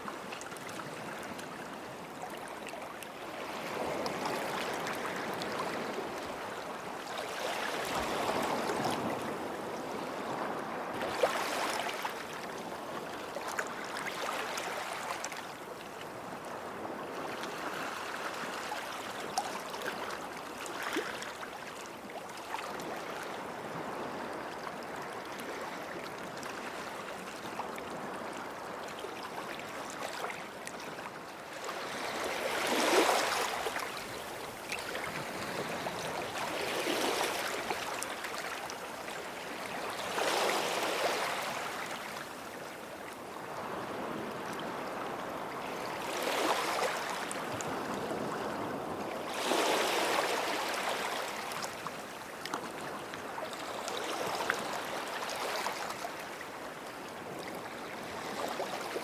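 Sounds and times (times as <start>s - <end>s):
waves washing onto a beach: 0.0s - 59.0s.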